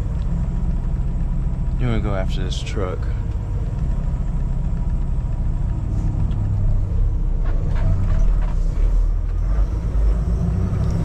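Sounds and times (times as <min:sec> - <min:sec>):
truck diesel engine rumbling: 0:00.0 - 0:11.0.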